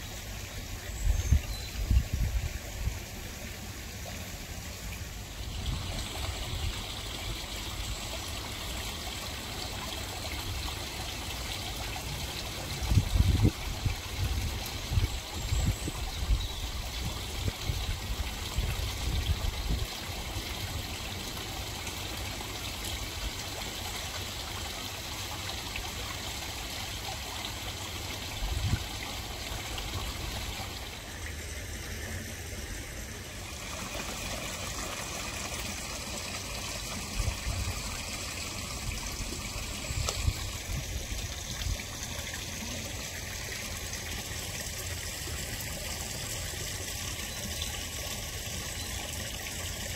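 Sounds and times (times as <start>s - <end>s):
water trickling and splashing: 0.0s - 49.9s.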